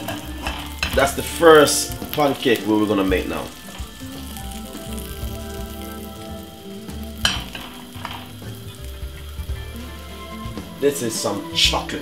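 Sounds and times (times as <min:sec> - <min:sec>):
batter sizzling in a frying pan: 0:00.0 - 0:12.0.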